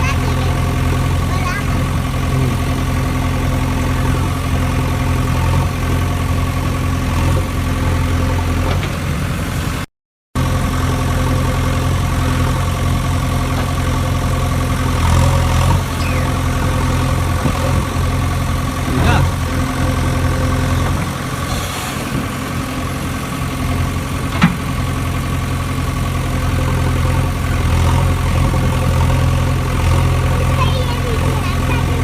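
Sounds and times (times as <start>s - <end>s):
engine idling: 0.0s - 9.8s, 10.4s - 32.0s.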